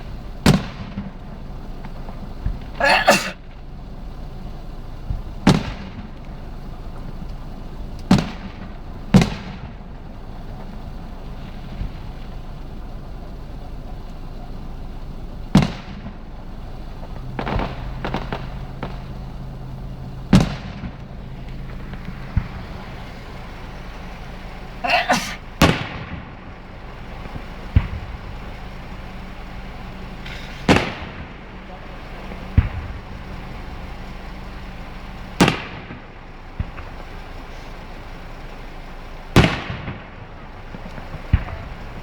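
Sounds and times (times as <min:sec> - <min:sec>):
fireworks pops and crackling: 0:00.0 - 0:02.8, 0:03.4 - 0:42.0
steady low hum: 0:00.0 - 0:42.0
fireworks bangs: 0:00.4 - 0:03.6, 0:05.0 - 0:13.2, 0:14.0 - 0:42.0.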